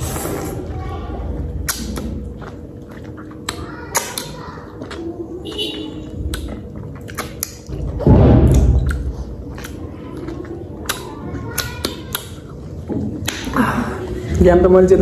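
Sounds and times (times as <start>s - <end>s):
wet mouth eating sounds: 0.0s - 14.3s.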